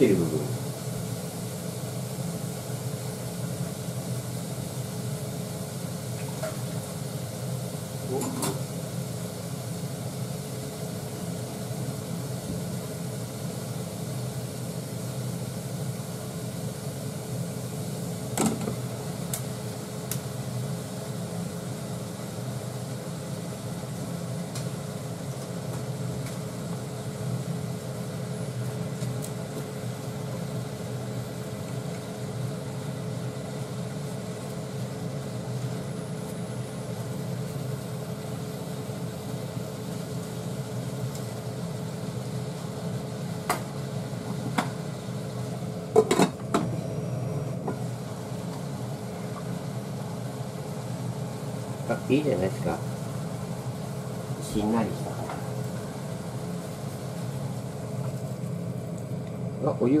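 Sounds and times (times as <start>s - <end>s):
cooling fan running: 0.0s - 60.0s
induction cooktop hum: 0.0s - 60.0s.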